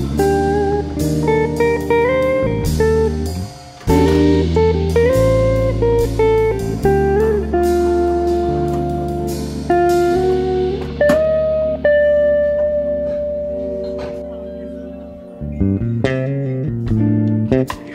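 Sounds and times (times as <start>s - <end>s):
bass line: 0.0s - 17.8s
plucked guitar music: 0.0s - 17.9s.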